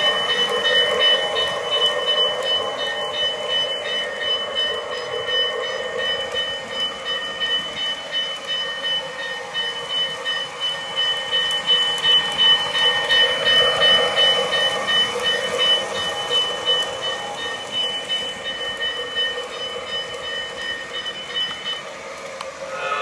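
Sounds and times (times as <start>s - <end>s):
wheels rumbling on rails: 0.0s - 23.0s.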